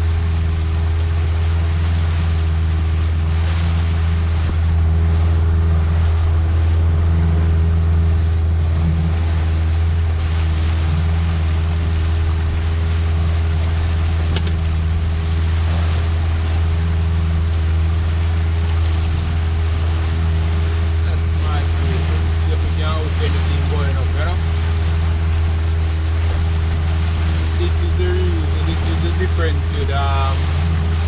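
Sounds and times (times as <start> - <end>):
boat engine droning: 0.0 - 31.0
water rushing: 0.0 - 31.0
wind: 0.0 - 31.0.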